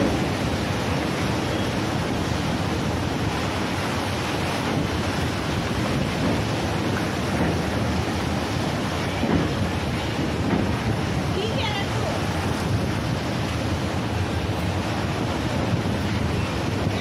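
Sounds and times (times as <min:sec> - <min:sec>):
sea surf churning: 0:00.0 - 0:17.0
wind on microphone: 0:00.0 - 0:17.0.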